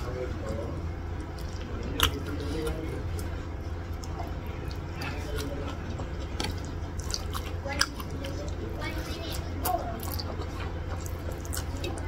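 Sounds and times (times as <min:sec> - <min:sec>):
wet chewing: 0:00.0 - 0:12.0.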